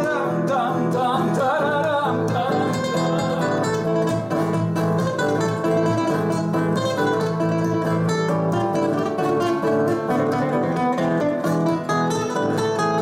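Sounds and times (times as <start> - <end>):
acoustic guitar picked melody: 0.0 - 13.0
acoustic guitar strumming chords: 0.0 - 13.0.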